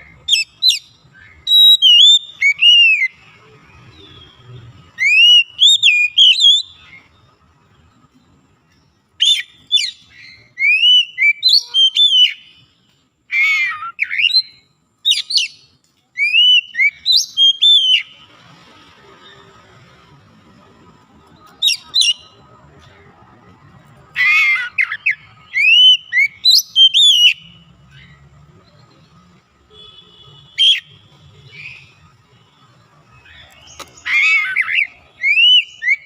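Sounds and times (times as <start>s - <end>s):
bird singing whistled notes: 0.0s - 7.4s, 8.7s - 18.3s, 21.4s - 22.5s, 24.1s - 36.0s.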